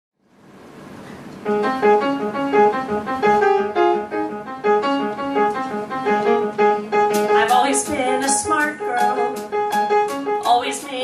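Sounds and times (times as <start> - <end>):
piano playing repeated chords: 0.5 - 11.0.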